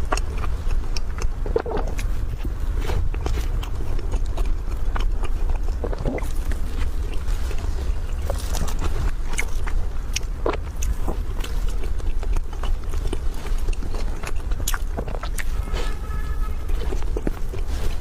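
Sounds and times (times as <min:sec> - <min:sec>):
person chewing food: 0:00.0 - 0:18.0
steady low rumble: 0:00.0 - 0:18.0.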